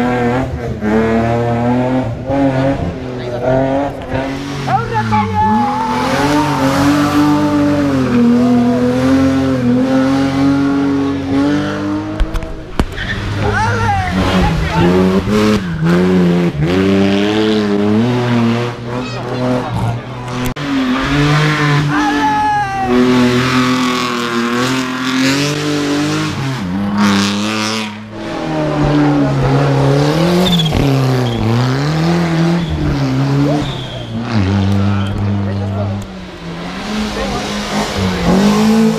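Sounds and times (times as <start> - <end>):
rally car engine at high revs: 0.0 - 38.9.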